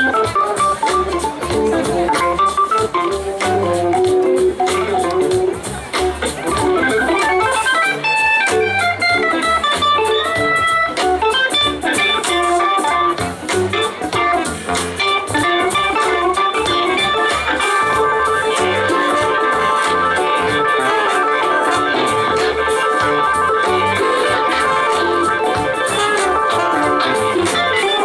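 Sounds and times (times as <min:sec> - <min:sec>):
bass guitar: 0:00.0 - 0:28.0
electric guitar lead line: 0:00.0 - 0:28.0
organ chords: 0:00.0 - 0:28.0.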